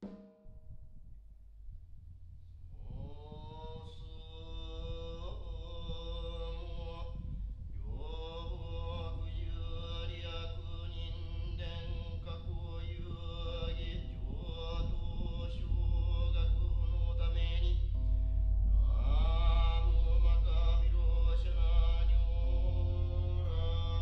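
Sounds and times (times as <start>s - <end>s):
slow ambient music: 1.8s - 24.0s.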